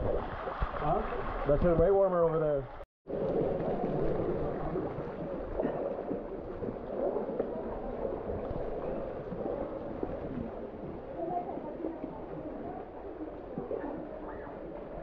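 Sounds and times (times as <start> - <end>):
small water splashes: 0.0 - 15.0.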